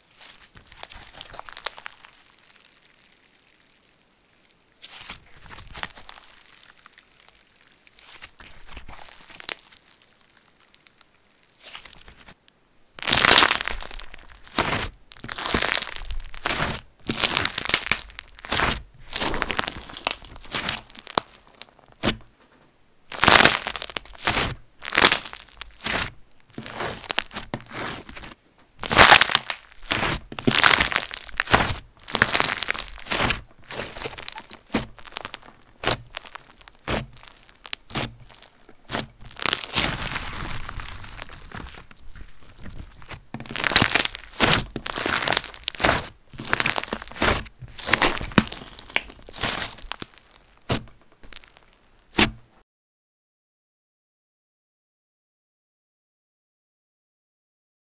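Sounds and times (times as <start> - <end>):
slime crackling and popping: 0.1 - 12.4, 13.0 - 22.2, 23.1 - 52.4.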